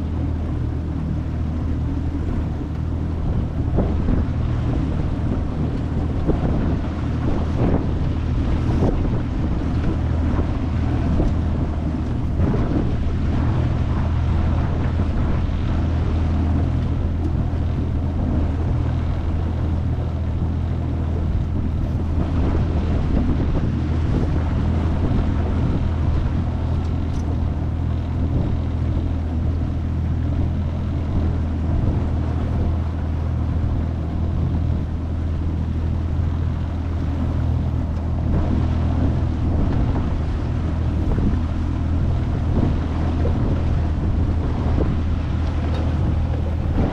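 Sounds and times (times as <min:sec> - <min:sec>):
outboard motor running: 0:00.0 - 0:46.9
water rushing past hull: 0:00.0 - 0:46.9
wind buffeting microphone: 0:00.0 - 0:46.9.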